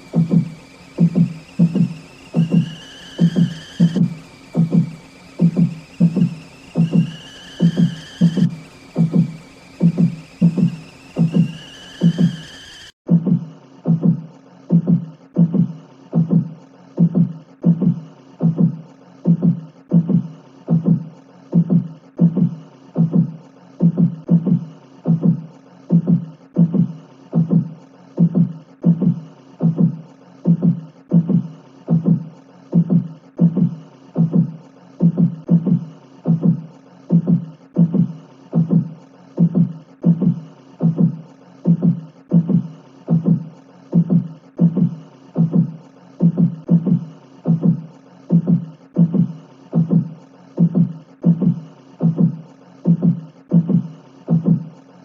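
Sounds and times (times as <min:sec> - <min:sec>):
heartbeat thumps: 0:00.0 - 0:54.8.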